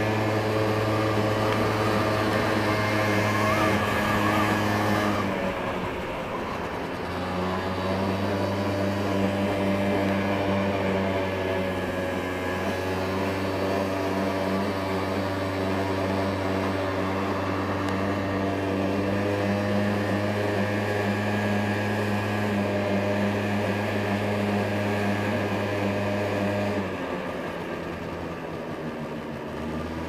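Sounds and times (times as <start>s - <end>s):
scooter engine droning: 0.0s - 30.0s.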